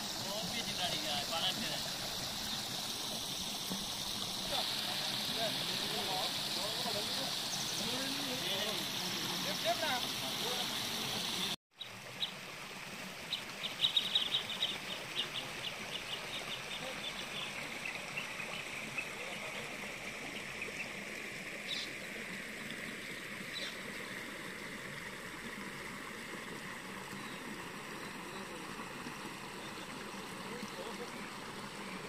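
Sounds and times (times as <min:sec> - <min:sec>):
steady outdoor hiss: 0:00.0 - 0:32.0.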